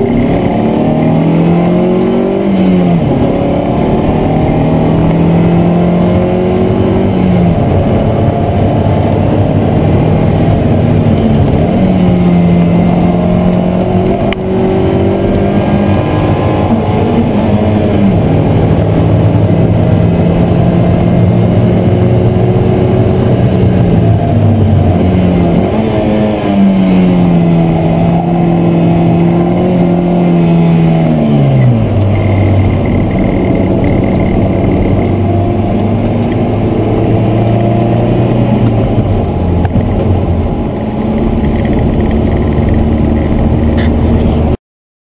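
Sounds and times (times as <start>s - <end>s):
car engine revving: 0.0s - 44.6s.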